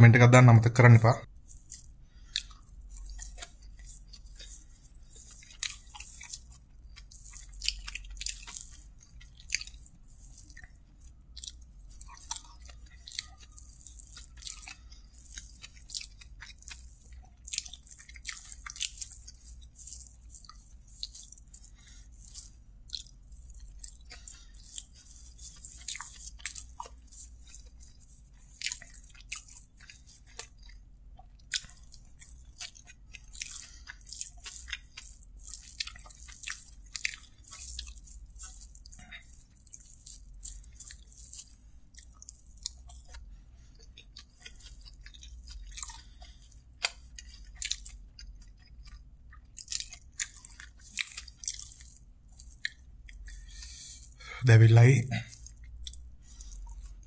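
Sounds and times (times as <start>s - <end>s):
man chewing food: 1.2s - 57.0s.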